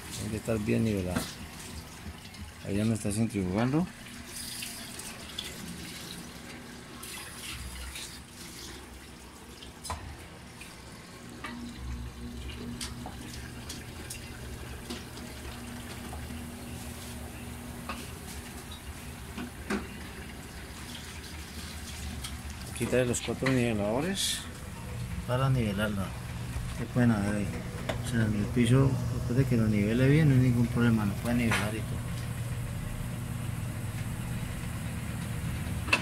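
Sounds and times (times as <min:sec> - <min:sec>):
washing machine spinning: 0:00.0 - 0:36.0
water draining: 0:00.0 - 0:36.0.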